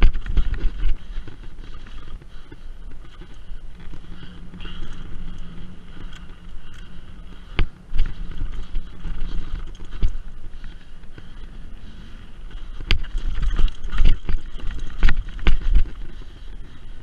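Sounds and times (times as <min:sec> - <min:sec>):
bike rattling: 0:00.0 - 0:17.0
tyres on dirt and stones: 0:00.0 - 0:17.0
wind on microphone: 0:00.0 - 0:17.0.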